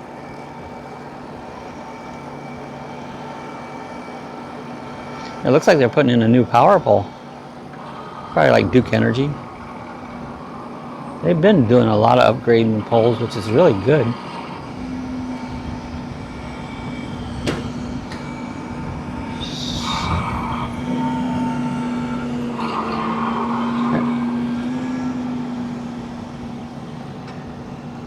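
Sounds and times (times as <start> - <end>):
motor drone: 0.0 - 28.0
rumbling ride noise: 0.0 - 28.0.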